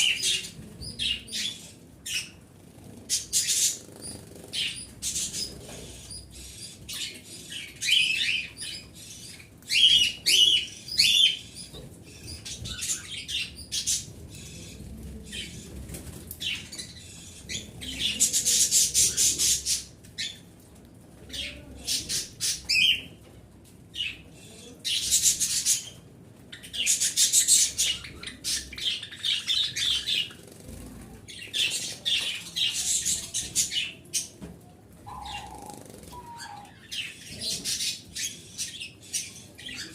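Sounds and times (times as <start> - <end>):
small birds chirping: 0.0 - 20.5, 23.9 - 34.4, 35.0 - 39.9.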